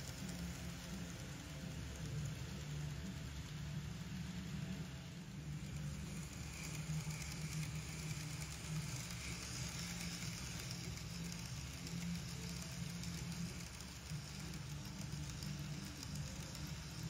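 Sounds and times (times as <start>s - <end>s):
model train motor hum: 0.0s - 17.0s
wheels hissing on rail: 0.0s - 17.0s.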